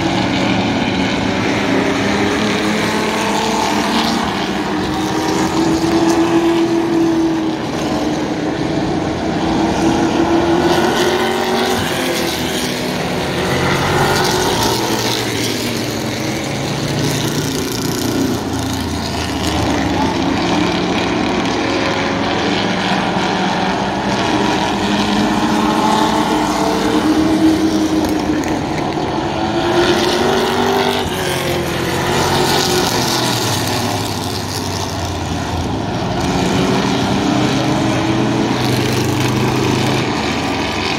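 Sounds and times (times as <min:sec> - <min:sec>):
stock car engines racing: 0:00.0 - 0:40.9.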